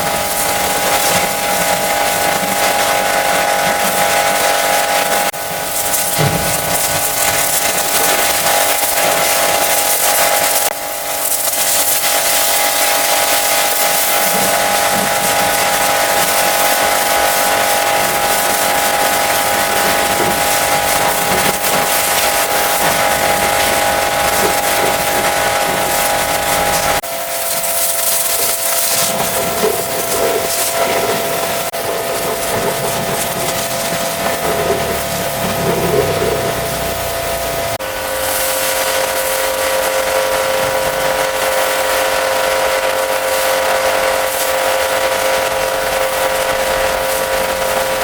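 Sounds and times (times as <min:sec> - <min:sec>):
pressure washer water jet hiss: 0:00.0 - 0:48.0
pump motor whine: 0:00.0 - 0:48.0.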